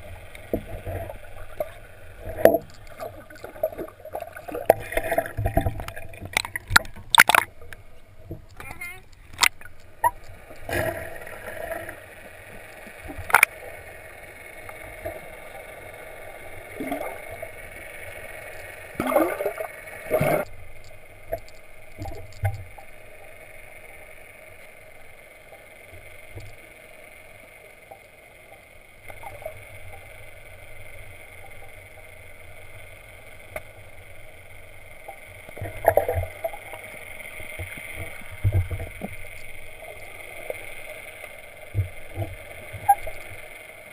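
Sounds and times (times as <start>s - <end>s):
muffled underwater hum and hiss: 0.0s - 43.9s.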